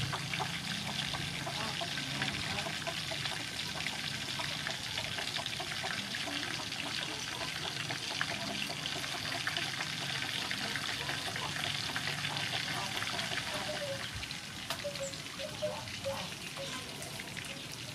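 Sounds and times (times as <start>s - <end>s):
chicken wings sizzling in hot oil: 0.0s - 17.9s.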